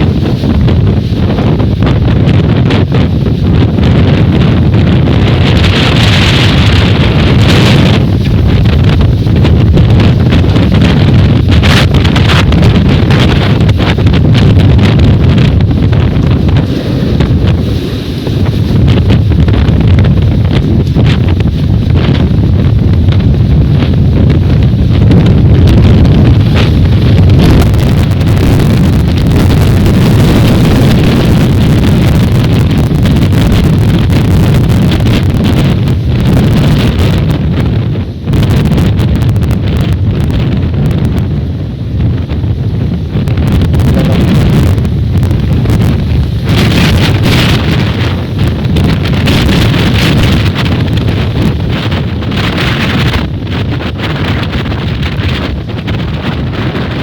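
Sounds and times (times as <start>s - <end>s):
gusty wind buffeting microphone: 0.0s - 57.0s.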